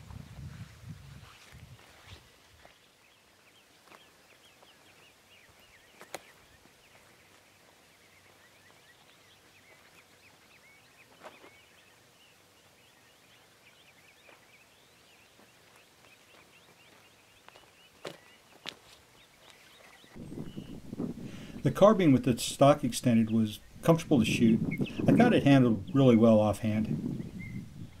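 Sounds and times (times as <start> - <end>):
small birds chirping: 2.0 - 28.0.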